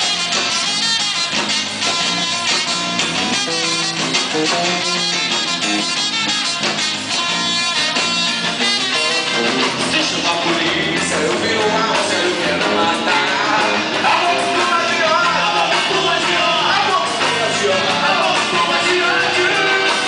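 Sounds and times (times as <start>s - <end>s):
drums: 0.0s - 20.0s
guitar: 0.0s - 20.0s
samba rock band playing: 0.0s - 20.0s.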